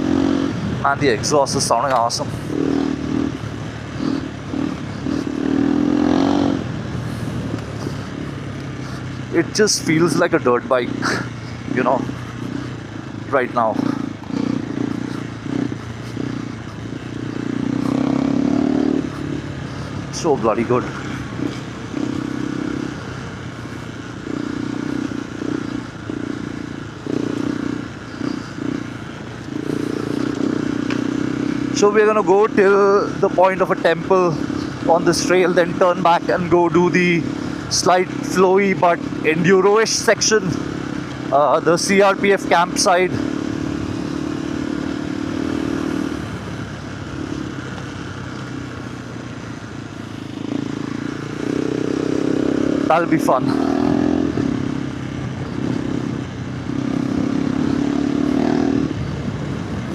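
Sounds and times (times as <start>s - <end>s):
single-cylinder motorcycle engine revving: 0.0s - 59.9s.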